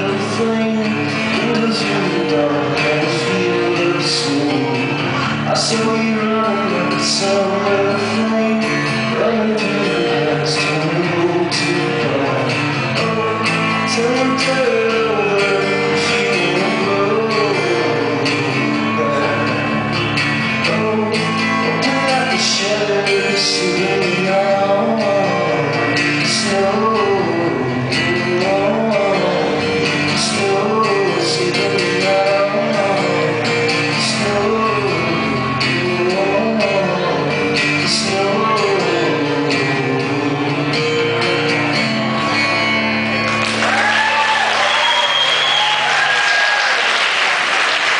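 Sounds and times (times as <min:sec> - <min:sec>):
man singing: 0:00.0 - 0:42.6
acoustic guitar strumming: 0:00.0 - 0:46.0.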